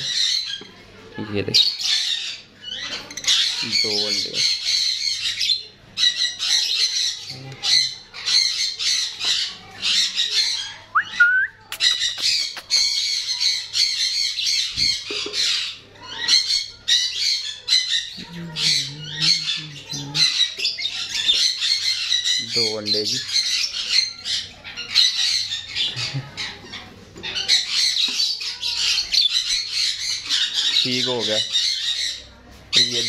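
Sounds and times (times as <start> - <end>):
lovebirds squawking and chattering: 0.0 - 33.0.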